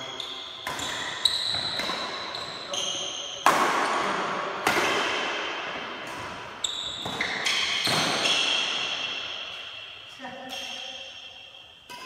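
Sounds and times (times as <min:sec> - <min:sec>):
shoes squeaking on court: 0:00.0 - 0:04.1, 0:06.1 - 0:12.0
rackets smacking shuttlecock: 0:00.5 - 0:02.3, 0:03.0 - 0:09.8, 0:10.4 - 0:12.0.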